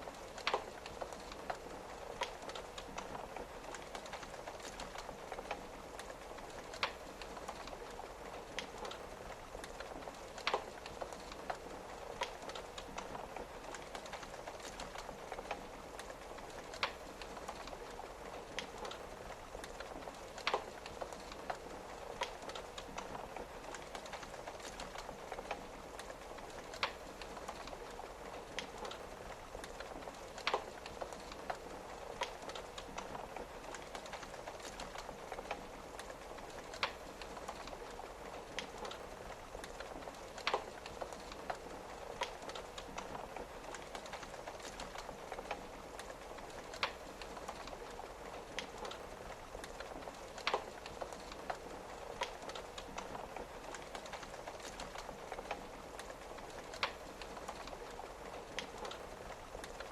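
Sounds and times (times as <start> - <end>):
rain on a window: 0.0 - 59.9
wood fire crackling: 0.0 - 59.9.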